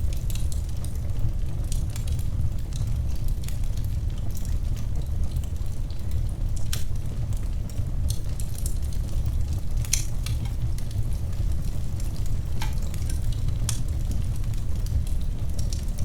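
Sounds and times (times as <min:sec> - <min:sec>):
fire crackles and pops: 0:00.0 - 0:16.0
wood fire rumble and hiss: 0:00.0 - 0:16.0.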